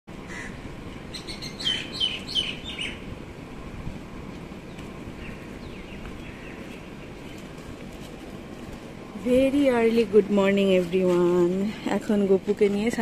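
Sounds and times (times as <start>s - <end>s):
birds chirping: 0.1s - 10.6s
low background hum: 0.1s - 13.0s.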